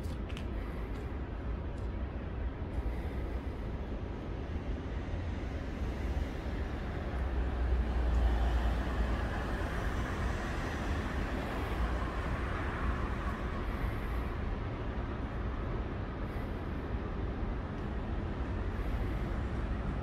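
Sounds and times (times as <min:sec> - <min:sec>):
passing road traffic: 0:00.0 - 0:20.0.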